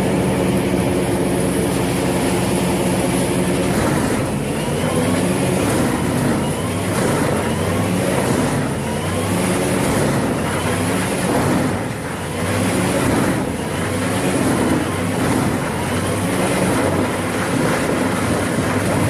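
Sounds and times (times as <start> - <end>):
wood chipper engine running: 0.0 - 19.0.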